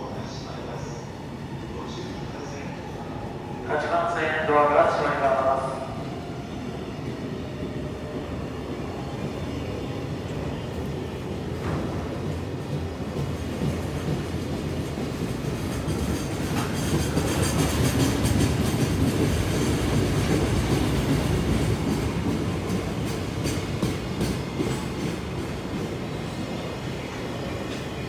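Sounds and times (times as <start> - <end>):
train wheels rumbling on rail: 0.1 - 28.0.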